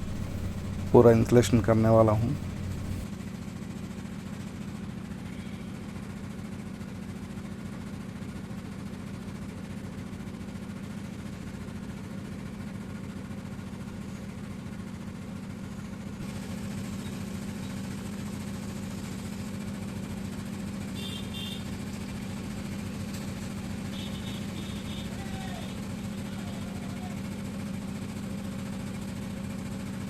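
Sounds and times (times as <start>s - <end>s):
low mechanical hum of machine: 0.0s - 7.0s, 12.8s - 30.0s.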